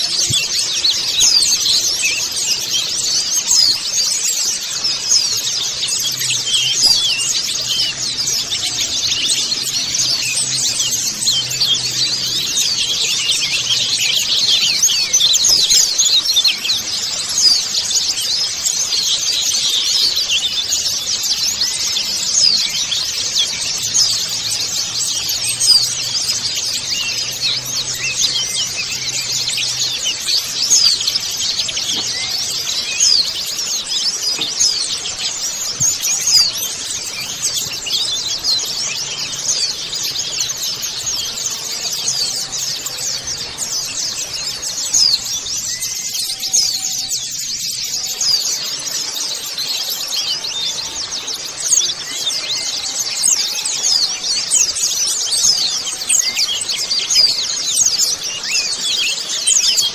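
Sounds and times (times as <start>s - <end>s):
flock of birds twittering: 0.0s - 59.9s.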